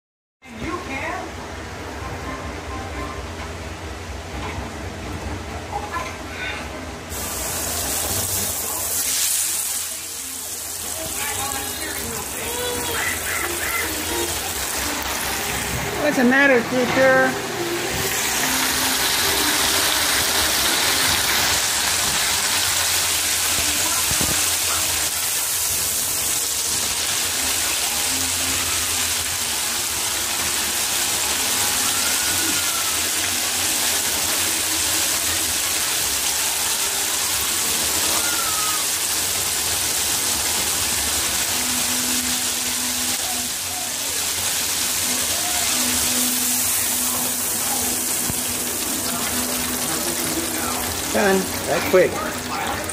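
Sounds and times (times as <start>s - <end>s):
oil bubbling and sizzling: 7.0s - 52.9s.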